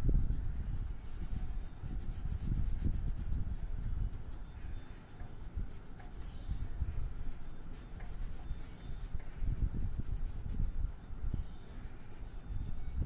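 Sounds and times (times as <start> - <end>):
colouring tool rubbing on paper: 0.3 - 13.0.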